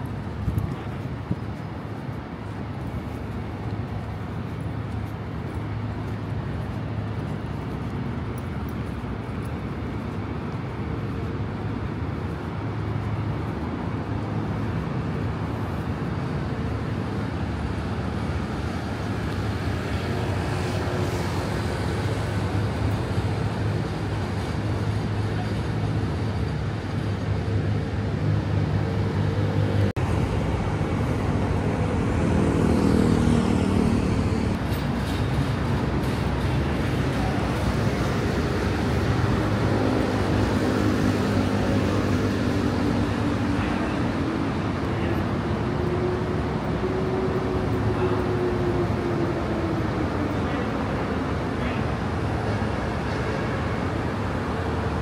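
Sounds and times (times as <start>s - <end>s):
road traffic hum: 0.0s - 55.0s
vehicle engine drone: 0.0s - 55.0s.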